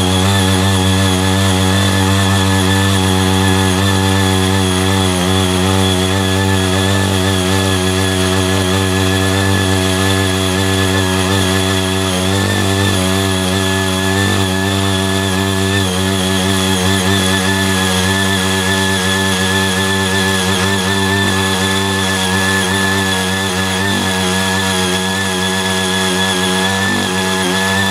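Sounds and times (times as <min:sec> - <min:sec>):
small tiller engine running: 0:00.0 - 0:27.9.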